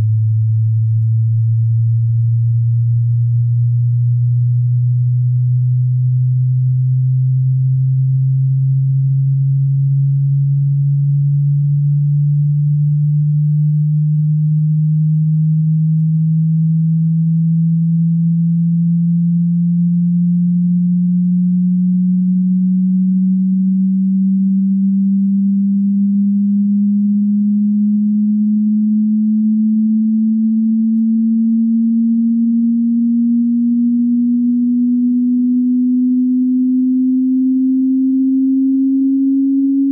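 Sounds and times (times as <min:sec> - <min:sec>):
pure sine tone gliding upward: 0:00.0 - 0:39.9.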